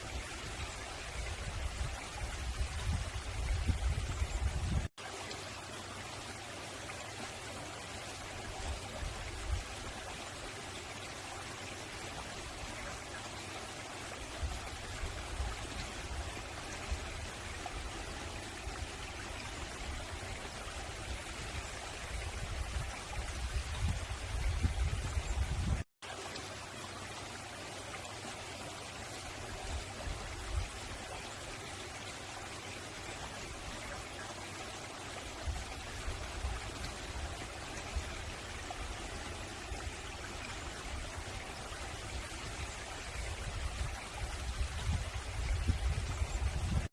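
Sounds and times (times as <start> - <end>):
stream rushing water: 0.0 - 46.9.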